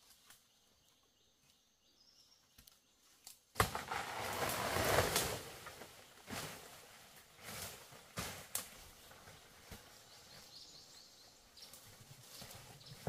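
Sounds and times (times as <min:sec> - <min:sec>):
rustling of leaves and brush: 0:02.5 - 0:13.0.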